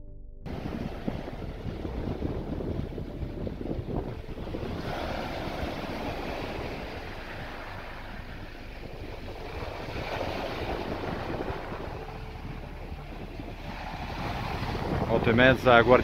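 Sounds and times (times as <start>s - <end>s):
wind buffeting microphone: 0.4s - 16.0s
surf breaking on shore: 0.5s - 16.0s.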